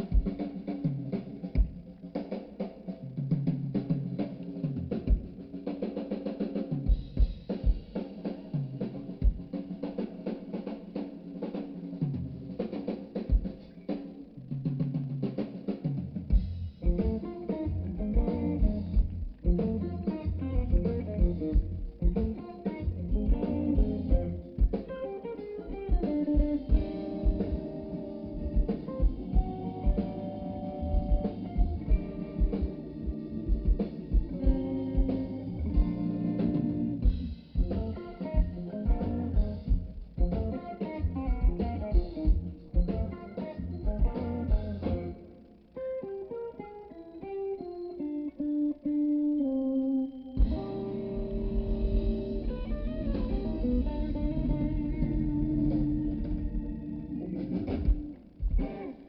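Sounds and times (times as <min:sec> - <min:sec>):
bass: 0:00.0 - 0:05.9, 0:13.9 - 0:25.0, 0:25.6 - 0:45.7, 0:47.2 - 0:58.9
drum kit: 0:00.0 - 0:45.7, 0:50.4 - 0:59.0
electric guitar lines: 0:00.0 - 0:59.0.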